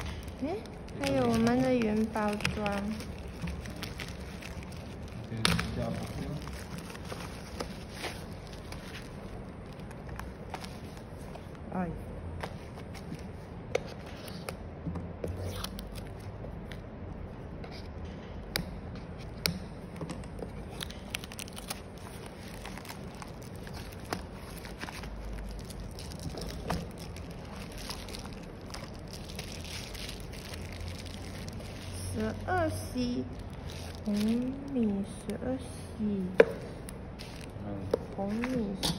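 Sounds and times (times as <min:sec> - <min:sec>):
bubble wrap rustling: 0:00.0 - 0:14.4, 0:20.1 - 0:35.5, 0:36.7 - 0:38.8.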